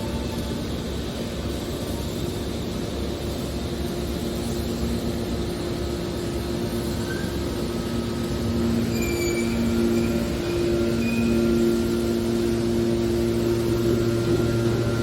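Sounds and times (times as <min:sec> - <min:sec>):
metal baler machine drone: 0:00.0 - 0:15.0.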